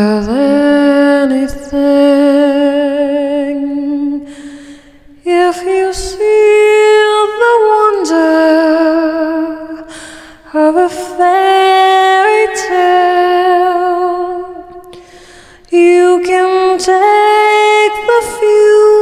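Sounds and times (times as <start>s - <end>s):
woman singing long held notes: 0.0s - 19.0s.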